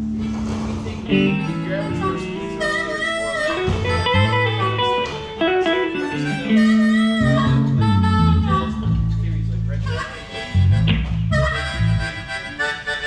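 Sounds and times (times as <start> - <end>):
electric guitar playing bluesy lines: 0.0 - 13.0
live band playing: 0.0 - 13.0.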